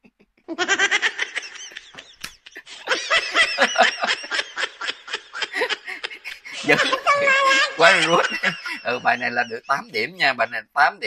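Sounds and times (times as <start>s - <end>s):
man laughing: 0.5s - 10.6s.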